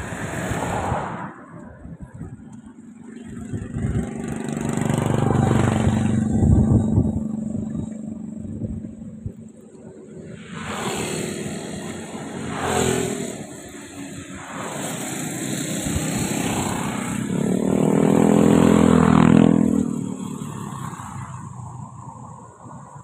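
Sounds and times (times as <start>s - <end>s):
engine passing by: 0.0s - 1.4s, 3.0s - 22.5s.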